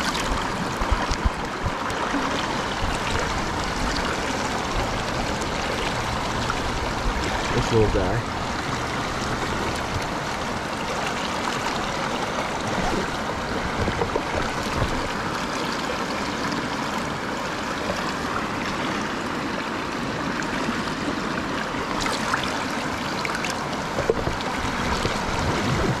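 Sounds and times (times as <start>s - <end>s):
water rushing over stones: 0.0s - 26.0s.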